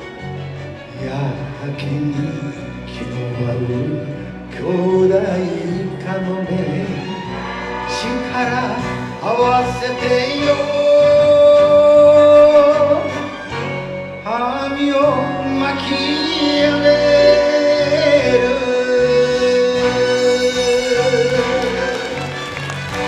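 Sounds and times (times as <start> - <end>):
strings and guitar instrumental: 0.0 - 23.0.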